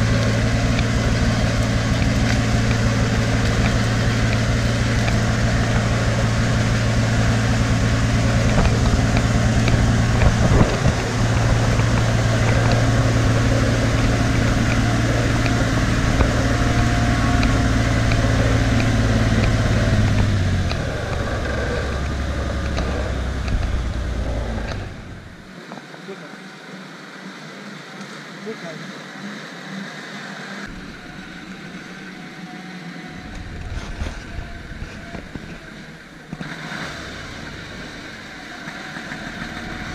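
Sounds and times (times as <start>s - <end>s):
diesel truck engine running: 0.0s - 25.6s, 30.7s - 39.9s.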